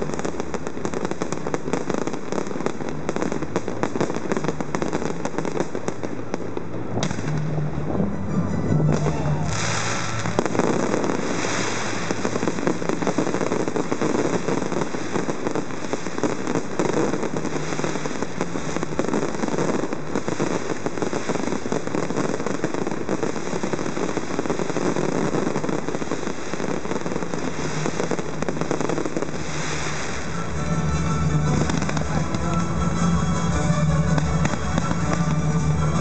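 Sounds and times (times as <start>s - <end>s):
fireworks crackling: 0.0s - 36.0s.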